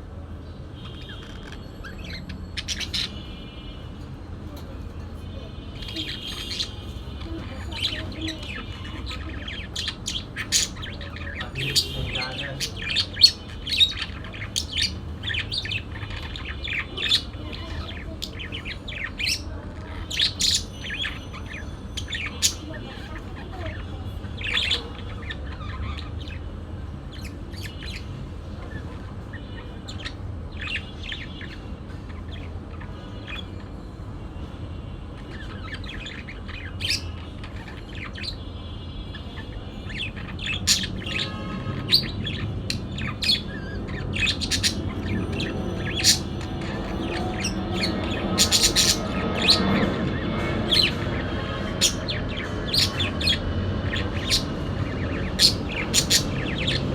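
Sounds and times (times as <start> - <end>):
parakeet chirping and squawking: 0.4 - 56.9.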